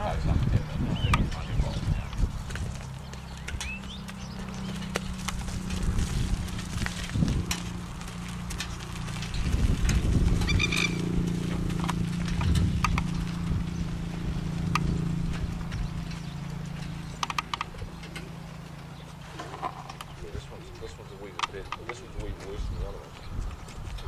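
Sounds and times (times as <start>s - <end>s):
horse hooves on gravel: 0.0s - 24.0s.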